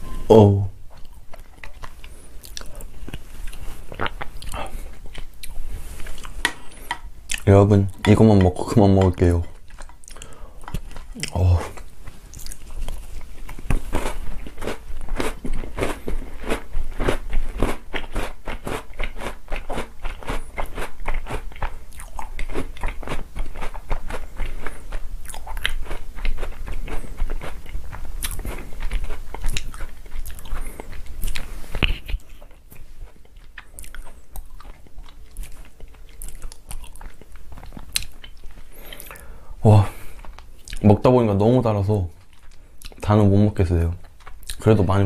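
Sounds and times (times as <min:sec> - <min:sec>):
crunchy chewing: 0:00.9 - 0:08.0, 0:09.5 - 0:39.3.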